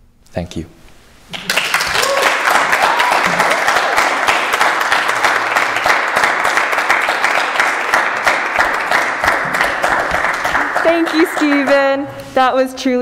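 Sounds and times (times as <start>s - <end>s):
audience applauding: 1.3s - 12.0s.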